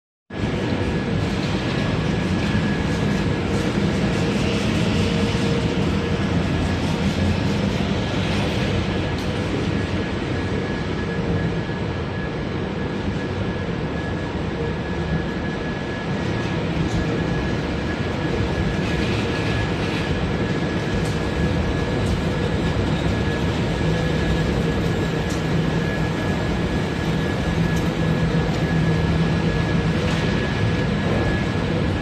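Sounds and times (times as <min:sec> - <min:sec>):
factory machinery running: 0:00.3 - 0:32.0.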